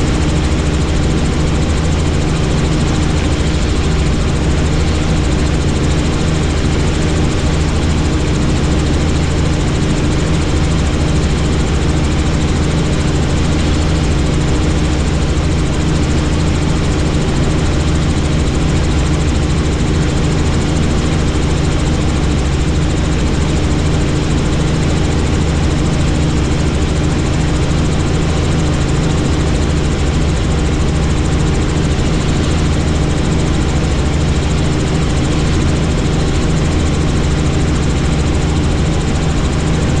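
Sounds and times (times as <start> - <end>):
helicopter rotor and turbine drone: 0.0 - 40.0.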